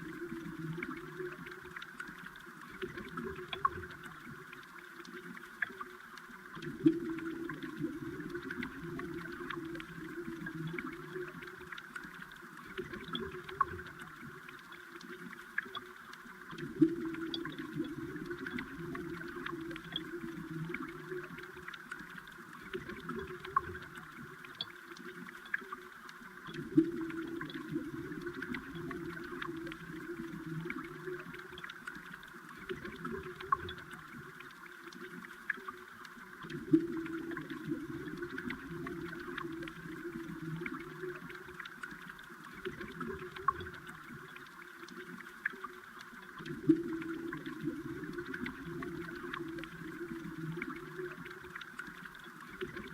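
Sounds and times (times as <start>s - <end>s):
small clicks and ticks: 0.0s - 52.9s
stream water heard underwater: 0.0s - 52.9s.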